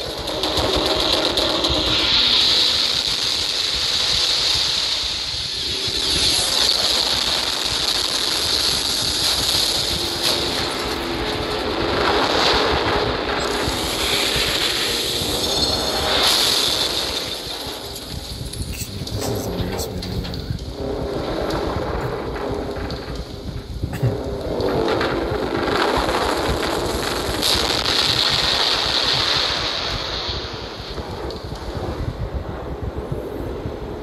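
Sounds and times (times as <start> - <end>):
loud mechanical rumble and din: 0.0 - 34.0.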